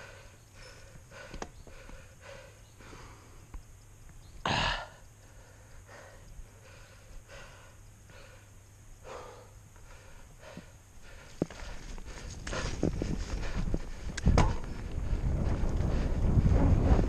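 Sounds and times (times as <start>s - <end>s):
person breathing hard: 0.0s - 3.5s, 4.5s - 16.6s.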